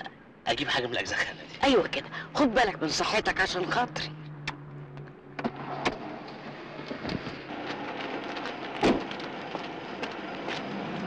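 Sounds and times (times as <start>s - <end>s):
steady street hiss: 0.0s - 11.0s.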